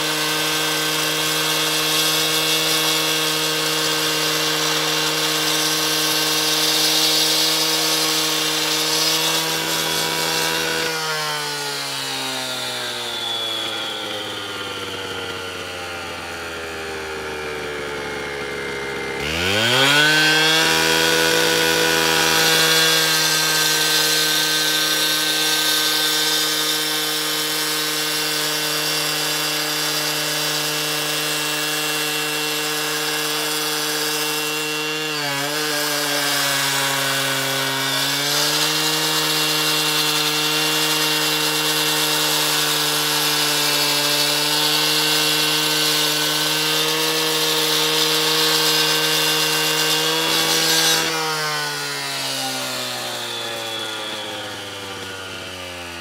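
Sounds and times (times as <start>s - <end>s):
cut-off saw cutting concrete: 0.0s - 56.0s.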